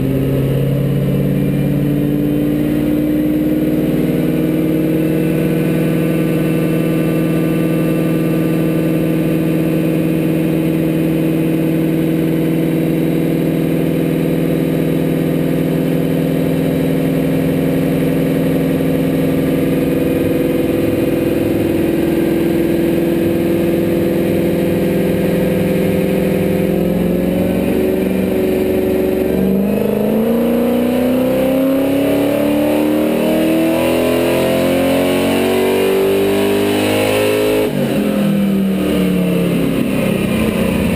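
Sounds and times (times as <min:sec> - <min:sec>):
supercharged engine revving: 0:00.0 - 0:40.9.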